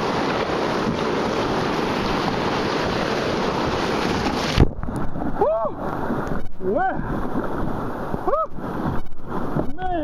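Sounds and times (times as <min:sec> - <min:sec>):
whitewater rapids roaring: 0:00.0 - 0:10.0.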